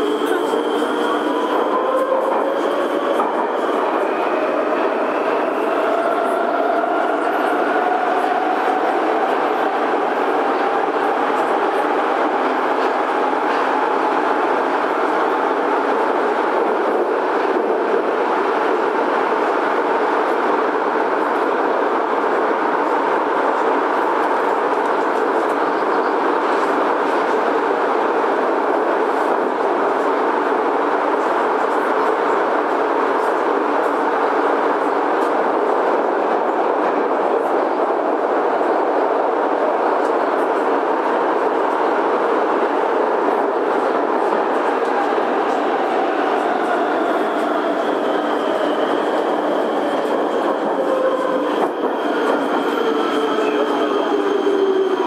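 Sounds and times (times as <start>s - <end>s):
metro train running on rails: 0.0s - 55.0s.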